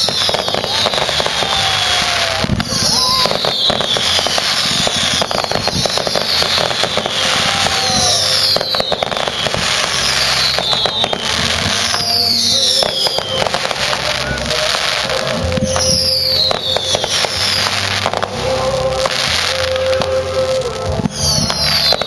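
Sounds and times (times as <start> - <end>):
falling firework whistle: 0.0 - 22.0
fireworks bangs: 0.0 - 22.0
fireworks crackling: 0.0 - 22.0.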